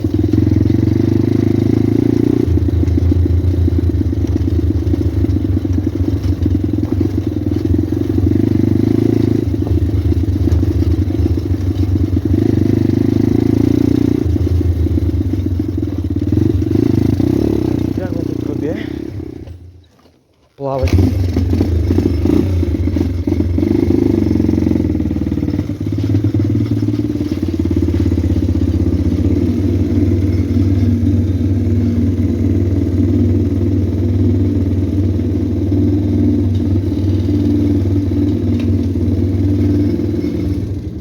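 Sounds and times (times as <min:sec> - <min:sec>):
pit bike engine running: 0:00.0 - 0:19.7, 0:20.8 - 0:41.0.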